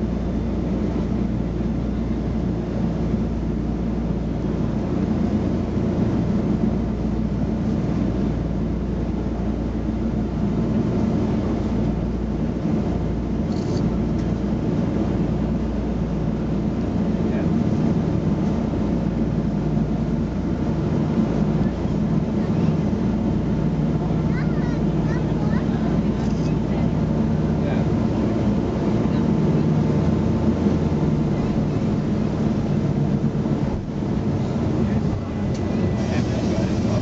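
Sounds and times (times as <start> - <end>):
deep drone of piston engines: 0.0 - 37.0.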